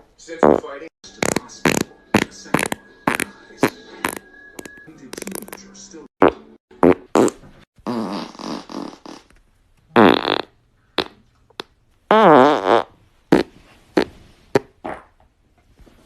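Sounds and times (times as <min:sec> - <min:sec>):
farts: 0:00.4 - 0:05.6, 0:06.2 - 0:09.3, 0:09.9 - 0:15.2.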